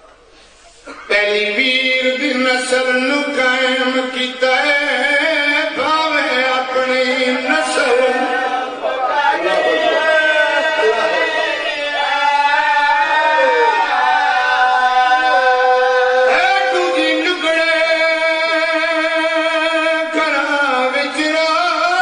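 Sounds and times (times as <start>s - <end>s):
man singing into a microphone: 0.9s - 8.8s, 9.4s - 22.0s.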